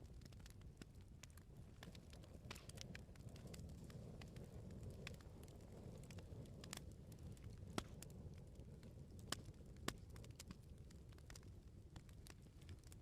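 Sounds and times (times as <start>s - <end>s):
fire popping and crackling: 0.0s - 13.0s
low fire rumble: 0.0s - 13.0s.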